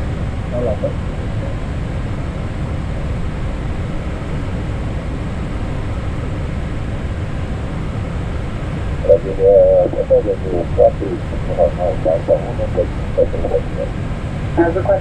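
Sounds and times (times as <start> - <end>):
airflow and engine noise in cockpit: 0.0 - 15.0.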